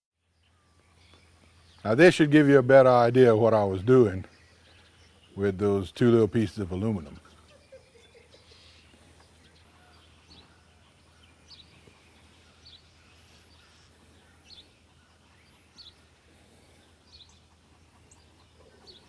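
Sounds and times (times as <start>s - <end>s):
bird chirping: 0.2s - 19.0s.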